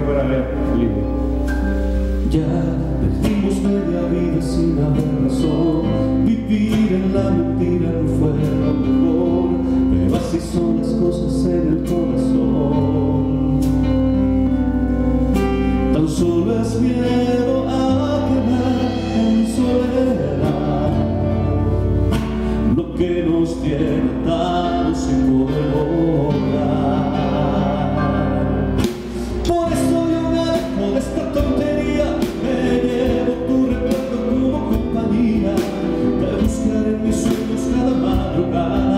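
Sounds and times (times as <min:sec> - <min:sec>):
band with guitar piano and bass: 0:00.0 - 0:38.9
man singing a ballad: 0:00.0 - 0:38.9.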